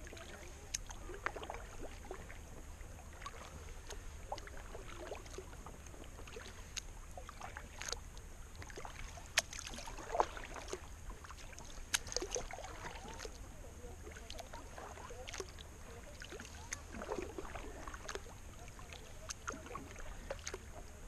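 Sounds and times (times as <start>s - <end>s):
paddle drips and splashes: 0.0s - 21.0s.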